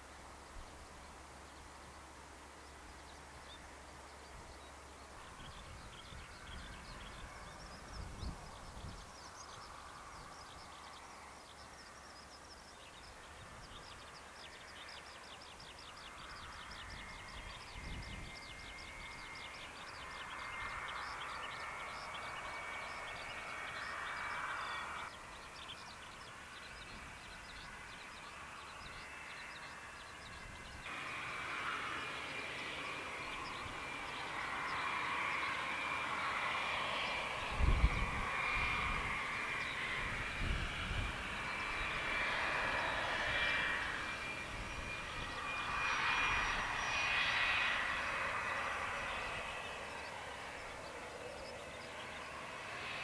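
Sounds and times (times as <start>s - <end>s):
distant jet engine whine: 0.0s - 53.0s.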